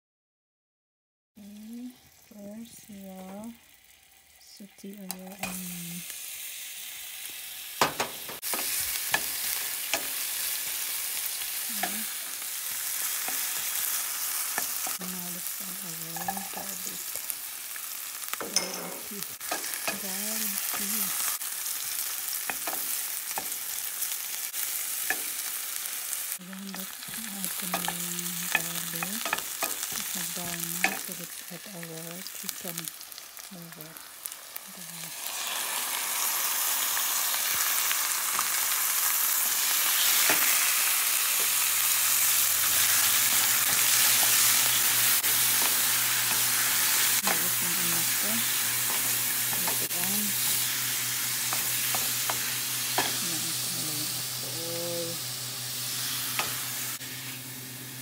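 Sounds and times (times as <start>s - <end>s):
onions and garlic sizzling in oil: 1.4s - 58.0s.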